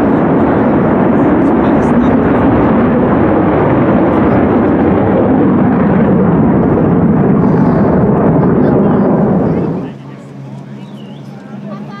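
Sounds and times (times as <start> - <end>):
jet aircraft passing overhead: 0.0 - 12.0.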